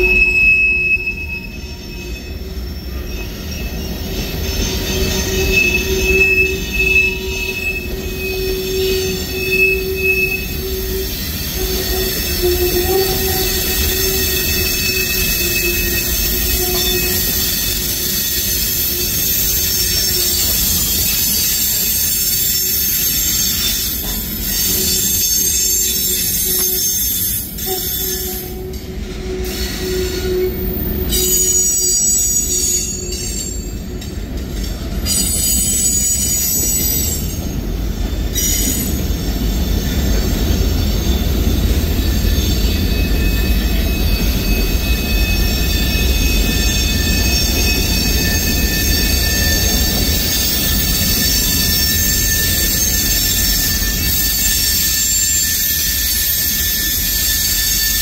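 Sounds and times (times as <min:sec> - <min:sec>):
wheels squealing: 0:00.0 - 0:58.0.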